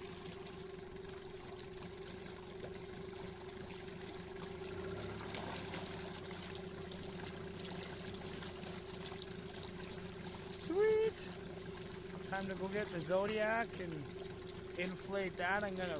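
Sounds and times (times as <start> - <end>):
outboard motor humming: 0.0 - 15.9
propeller churning water: 0.0 - 15.9.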